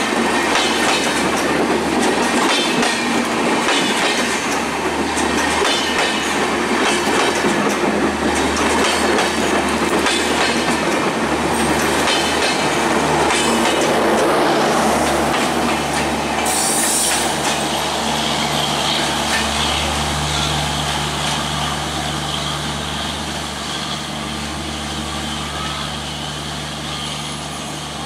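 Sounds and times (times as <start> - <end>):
train coaches rolling on rails: 0.0 - 28.0.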